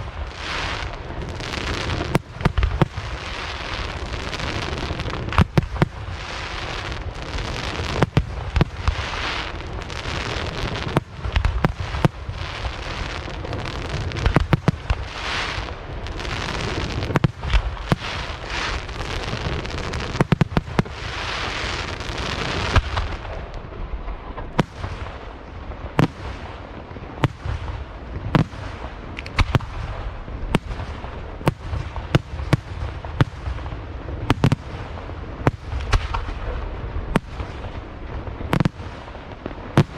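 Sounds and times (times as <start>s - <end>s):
fireworks bangs: 0.0s - 39.9s
fireworks crackling hiss: 0.0s - 39.9s.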